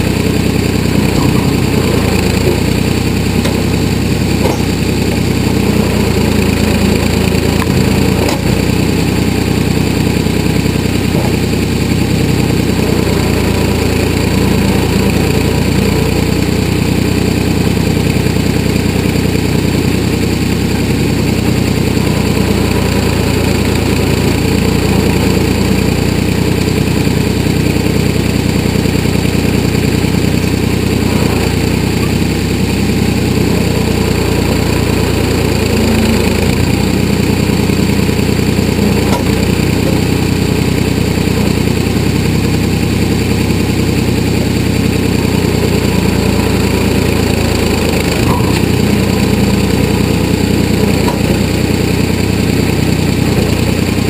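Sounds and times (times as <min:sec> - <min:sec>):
backhoe engine running: 0:00.0 - 0:54.0.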